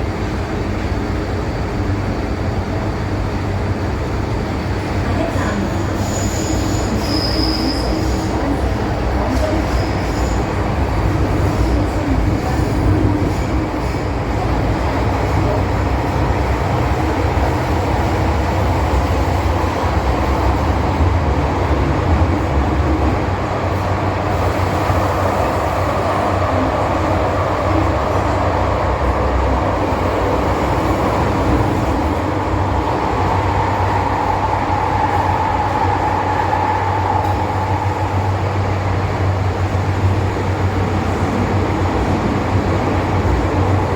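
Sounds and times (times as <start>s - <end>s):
high train whine: 0.0s - 43.9s
train wheels rumbling on track: 0.0s - 43.9s.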